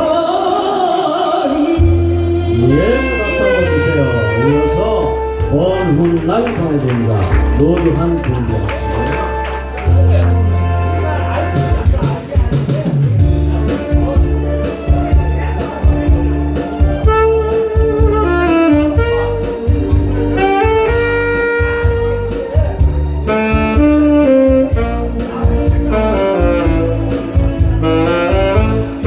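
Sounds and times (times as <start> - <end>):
saxophone-like lead melody: 1.6 - 29.0
bass and drum beat: 1.8 - 29.0.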